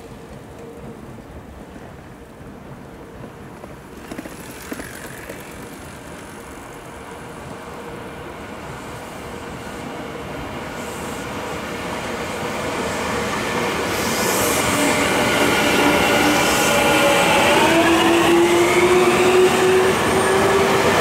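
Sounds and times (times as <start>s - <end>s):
electric train passing on rails: 0.0s - 21.0s.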